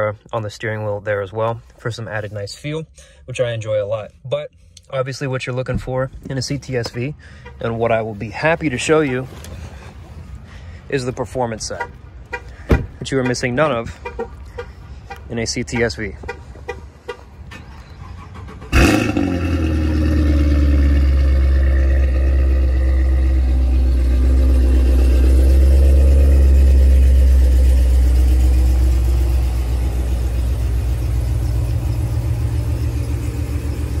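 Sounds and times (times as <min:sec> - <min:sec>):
car engine starting and idling: 0:00.0 - 0:34.0.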